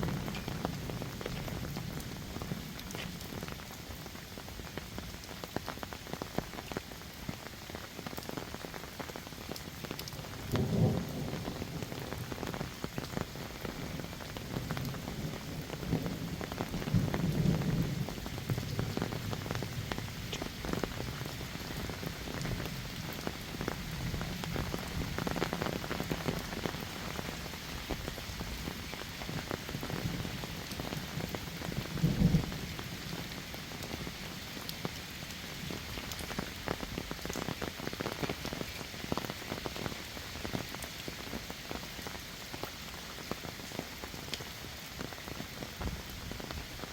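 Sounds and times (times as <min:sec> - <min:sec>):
heavy rain patter: 0:00.0 - 0:46.9.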